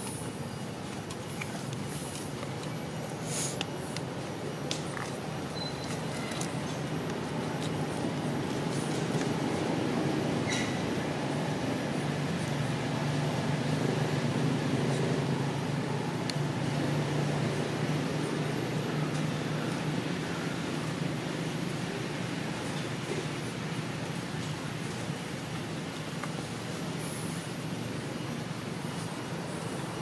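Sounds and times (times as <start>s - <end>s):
constant hiss: 0.0s - 30.0s.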